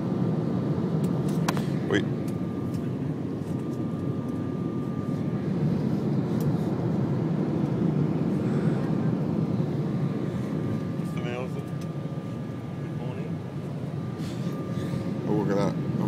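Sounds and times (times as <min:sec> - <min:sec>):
faint whine: 0:00.0 - 0:16.0
jet engine cabin roar: 0:00.0 - 0:16.0.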